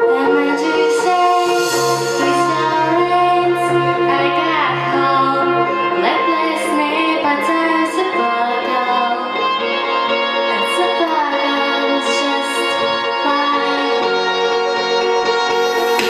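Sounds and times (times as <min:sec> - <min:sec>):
girl singing a pop song: 0:00.0 - 0:14.6
backing track: 0:00.0 - 0:16.0.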